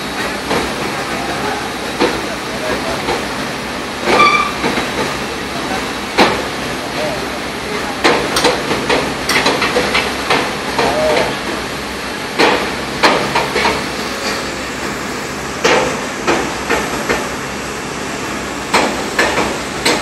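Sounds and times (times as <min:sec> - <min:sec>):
work site noise: 0:00.0 - 0:20.0.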